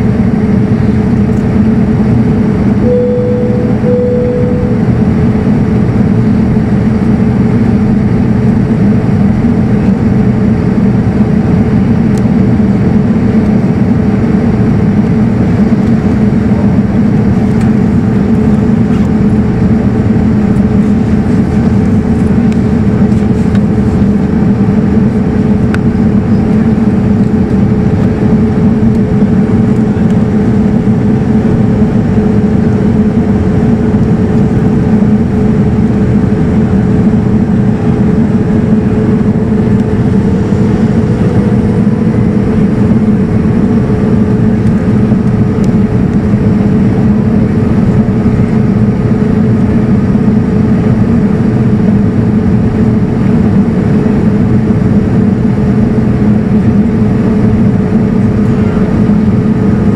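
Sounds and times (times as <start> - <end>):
airflow rush in aircraft cabin: 0.0 - 59.9
constant low hum: 0.0 - 59.9.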